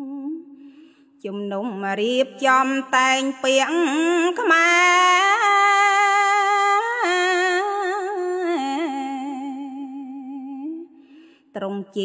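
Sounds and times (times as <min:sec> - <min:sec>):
woman chanting: 0:00.0 - 0:11.0, 0:11.6 - 0:12.0.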